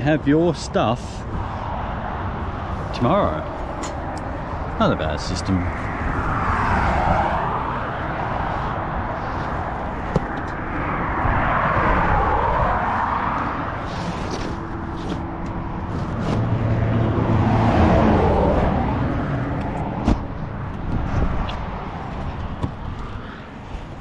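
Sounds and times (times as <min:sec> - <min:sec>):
vehicles passing: 0:00.0 - 0:24.0
low engine hum: 0:01.2 - 0:24.0.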